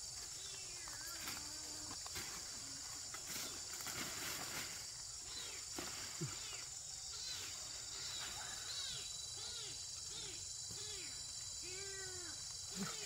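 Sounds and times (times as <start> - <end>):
high drone of insects: 0.0 - 13.0.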